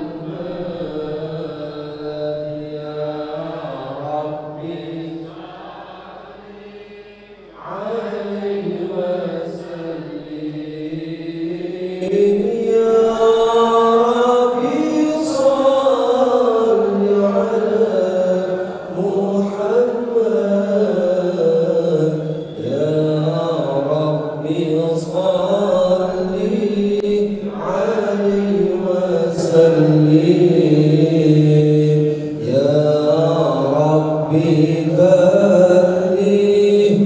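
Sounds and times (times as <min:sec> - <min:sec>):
man chanting into a microphone: 0:00.0 - 0:37.0.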